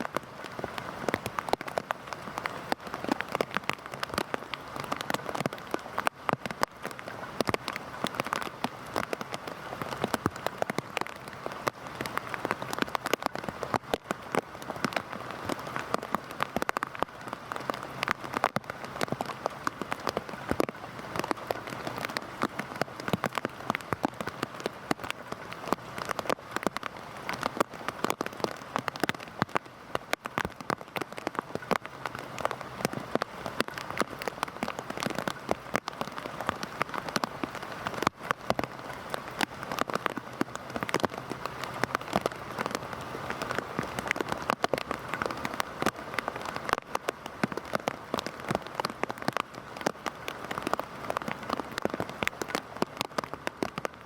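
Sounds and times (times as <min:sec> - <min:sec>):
heavy rain falling: 0:00.0 - 0:54.0
raindrops hitting a hard surface: 0:00.0 - 0:54.0.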